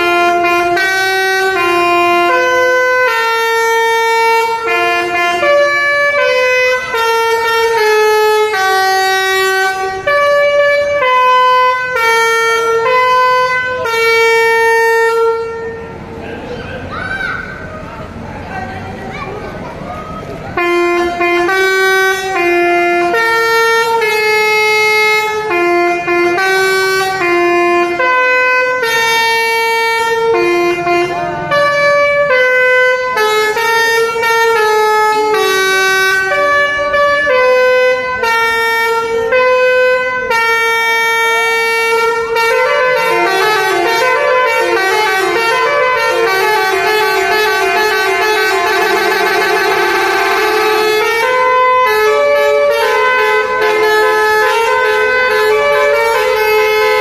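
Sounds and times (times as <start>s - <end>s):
bus horn playing a melody: 0.0s - 16.2s, 19.7s - 57.0s.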